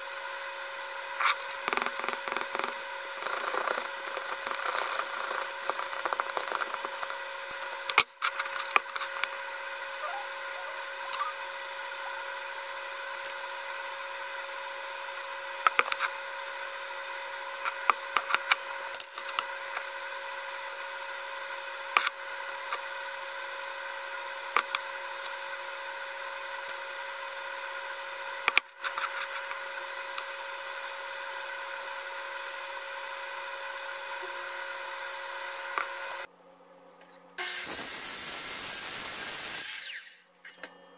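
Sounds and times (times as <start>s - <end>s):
machine hum: 0.0s - 36.9s.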